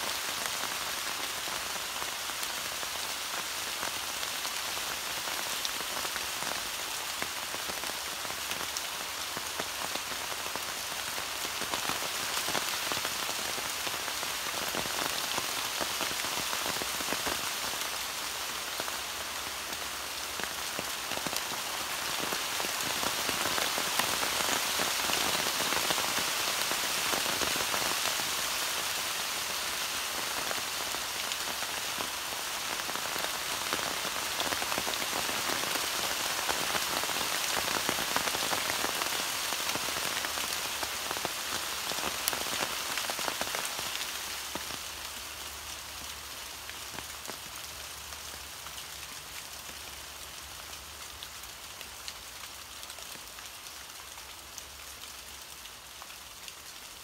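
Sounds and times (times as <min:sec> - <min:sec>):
rain falling on wet leaves: 0:00.0 - 0:57.0.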